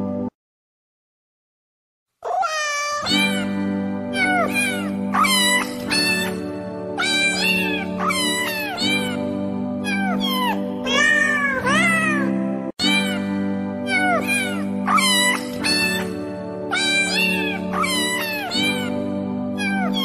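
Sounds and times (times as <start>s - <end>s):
background music with held tones: 0.0s - 0.3s, 3.0s - 20.0s
cat meowing: 2.2s - 3.5s, 4.1s - 19.0s, 19.6s - 20.0s.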